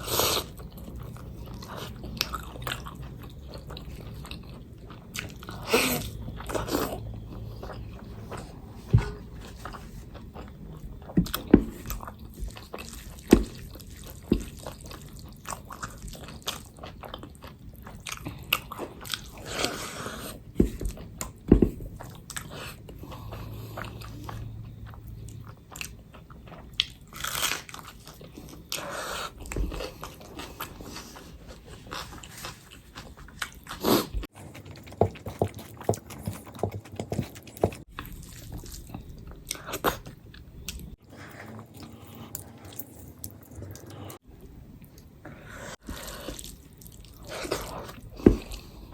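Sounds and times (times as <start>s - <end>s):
person chewing and biting food: 0.0s - 48.9s.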